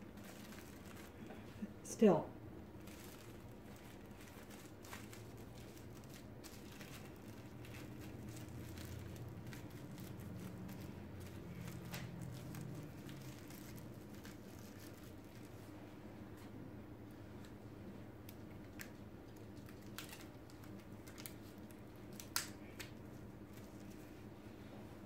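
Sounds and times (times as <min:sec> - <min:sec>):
wraps crinkling and ticking: 0:00.0 - 0:01.7, 0:02.6 - 0:15.7, 0:18.2 - 0:24.1.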